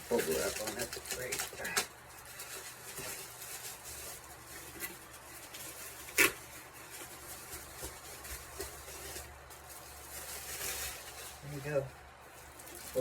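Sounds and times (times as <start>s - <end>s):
plastic packaging rustling: 0.0s - 13.0s.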